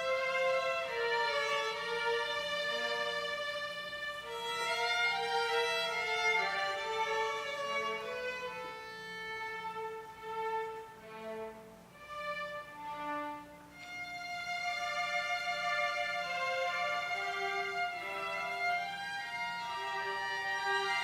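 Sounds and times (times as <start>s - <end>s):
violin playing slow melody: 0.0s - 21.0s.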